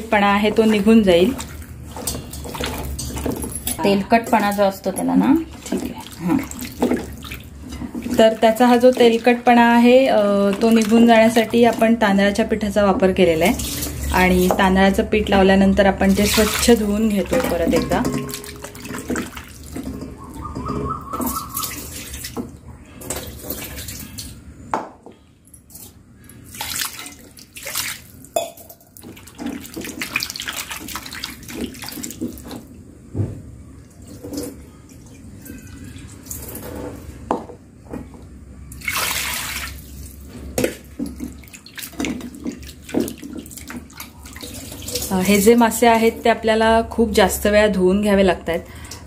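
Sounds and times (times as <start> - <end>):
water sloshing and splashing: 0.0 - 24.6, 25.6 - 32.8, 38.7 - 46.4.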